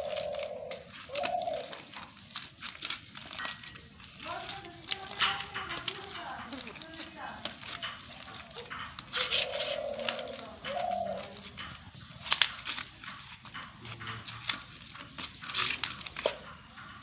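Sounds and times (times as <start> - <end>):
hands squelching meat paste: 0.0 - 16.4
pigeon cooing: 0.0 - 17.0.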